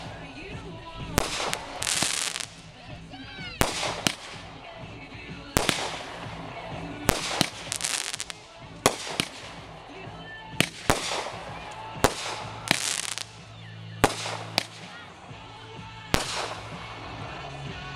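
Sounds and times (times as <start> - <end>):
fireworks bursting with crackle: 0.0 - 17.9.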